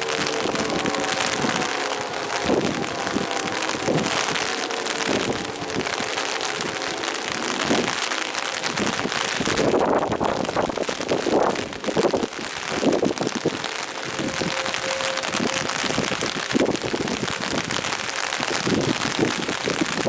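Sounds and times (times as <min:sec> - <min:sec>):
faint tornado siren tone: 0:00.0 - 0:20.0
rain hissing: 0:00.0 - 0:20.0.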